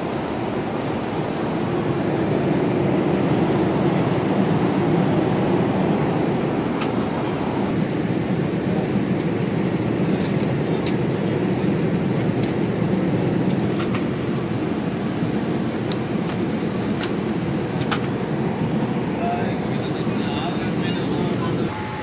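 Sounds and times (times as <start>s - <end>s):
airplane cabin engine rush: 0.0s - 22.0s.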